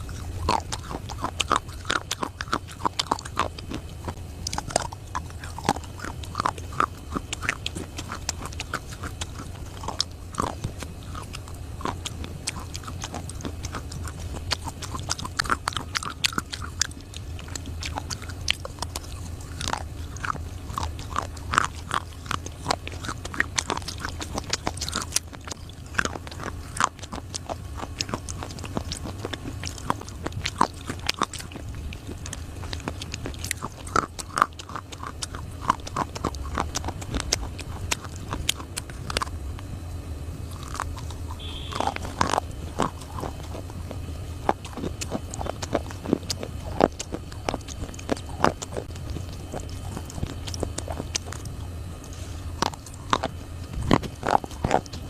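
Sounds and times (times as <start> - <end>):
person chewing crunchy clay: 0.0 - 55.0
steady low hum: 0.0 - 55.0.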